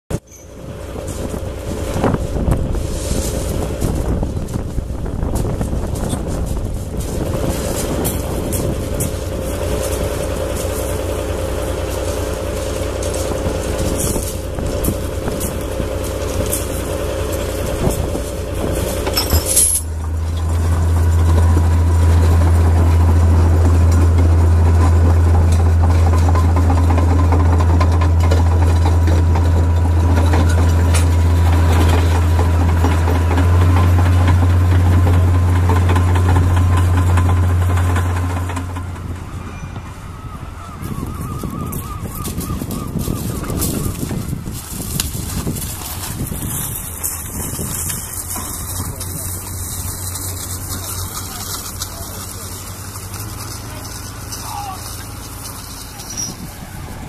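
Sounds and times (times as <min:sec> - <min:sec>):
diesel tractor engine under load: 0:00.1 - 0:57.0.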